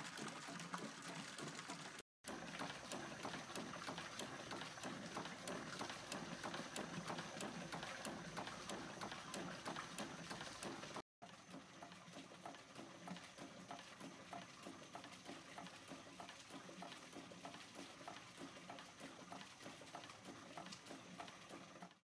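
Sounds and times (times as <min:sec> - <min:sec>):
hot air engine soft knocking: 0:00.0 - 0:22.0.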